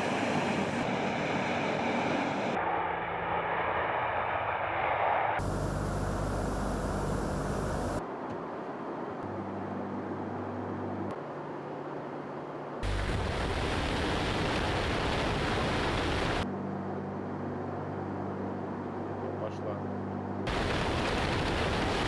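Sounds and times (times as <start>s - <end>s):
turboprop engines droning: 0.0s - 22.0s.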